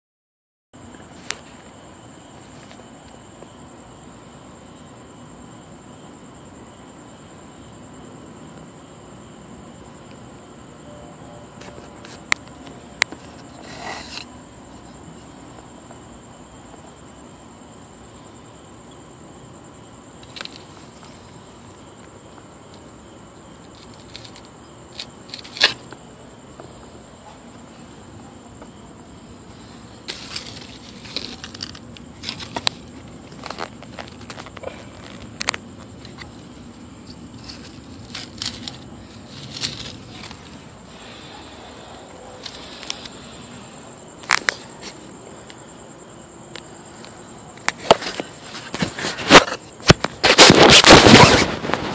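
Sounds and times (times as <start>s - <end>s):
background hiss: 0.8s - 51.9s
crickets trilling: 0.8s - 51.9s.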